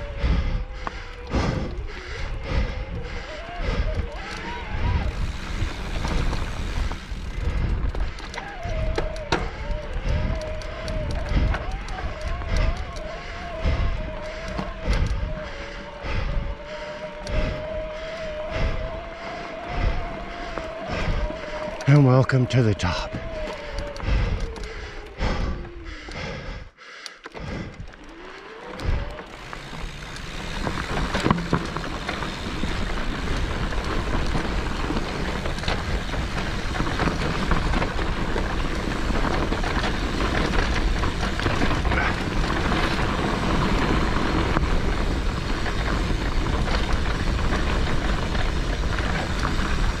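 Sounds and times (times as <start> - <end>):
bike tyres rolling on dirt: 0.0 - 26.6, 27.3 - 50.0.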